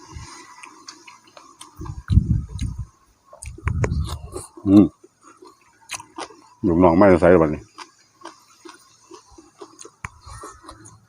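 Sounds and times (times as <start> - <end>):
chewing food: 0.0 - 6.7, 7.6 - 11.0.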